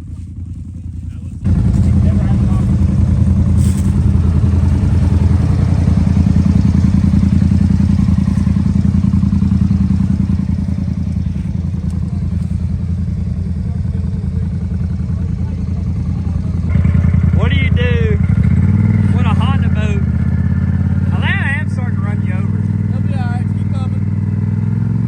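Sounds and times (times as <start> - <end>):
off-road vehicle engine running: 0.0 - 25.0.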